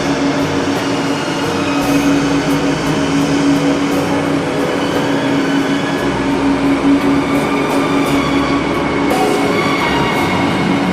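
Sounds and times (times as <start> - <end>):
train rumbling: 0.0 - 10.9.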